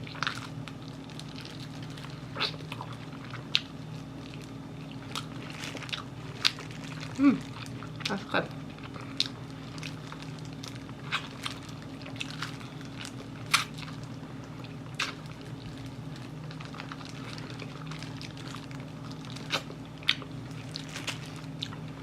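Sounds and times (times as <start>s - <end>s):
chewing fried chicken: 0.0s - 22.0s
steady low hum: 0.0s - 22.0s.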